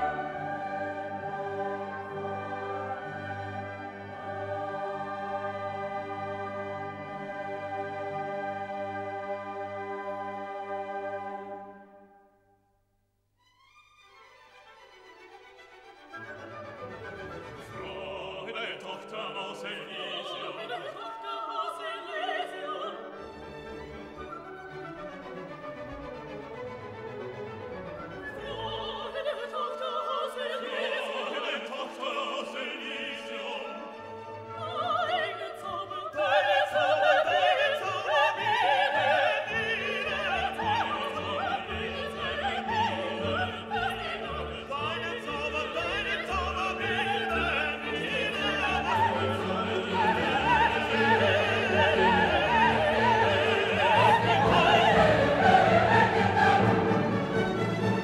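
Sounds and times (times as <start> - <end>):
operatic singing with orchestra: 0.0 - 12.0, 16.1 - 58.0.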